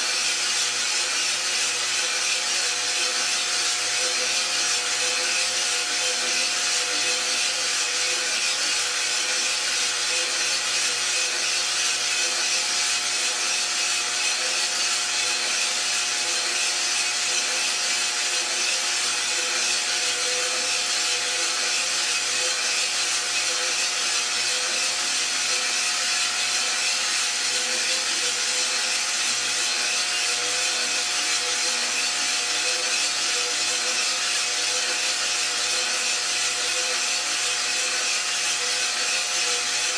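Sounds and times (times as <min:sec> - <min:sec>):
coffee beans rattling in drum: 0:00.0 - 0:39.9
motor and fan hum: 0:00.0 - 0:39.9.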